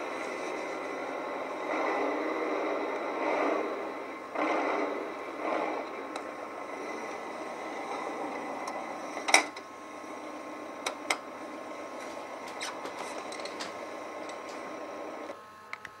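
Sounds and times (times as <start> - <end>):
diesel engine through speakers: 0.0 - 15.4.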